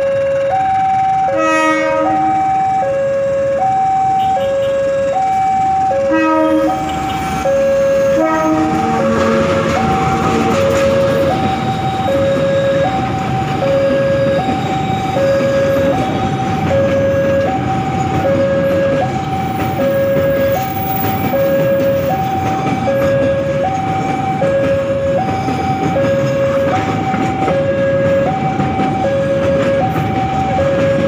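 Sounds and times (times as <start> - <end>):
train wheels rumbling on rails: 0.0 - 31.0
two-tone electronic warning signal: 0.0 - 31.0.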